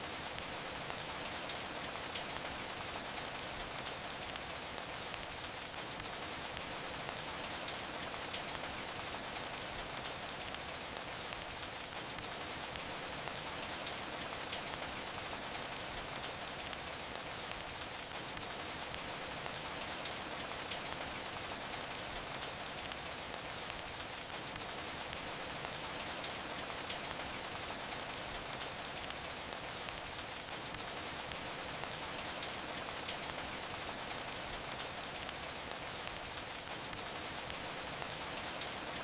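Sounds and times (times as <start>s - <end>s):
rain falling: 0.0s - 39.0s
wood fire crackling: 0.0s - 39.0s.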